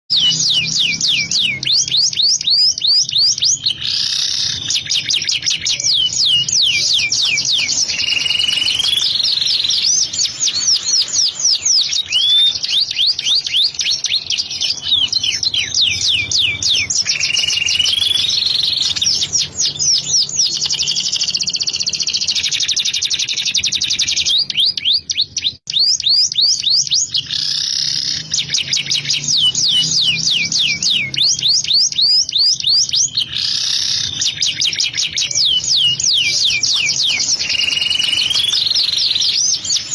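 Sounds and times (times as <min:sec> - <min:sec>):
canary singing trills: 0:00.1 - 0:39.9.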